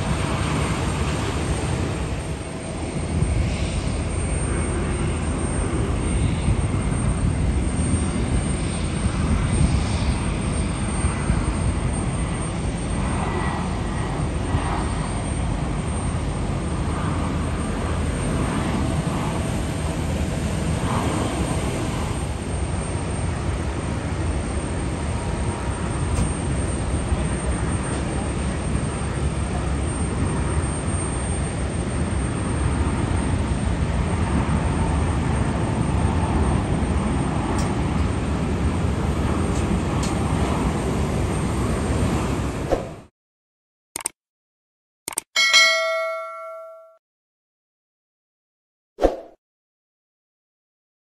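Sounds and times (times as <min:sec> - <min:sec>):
faint jet engine whine: 0:00.0 - 0:43.1
jet engines rumbling: 0:00.0 - 0:43.1.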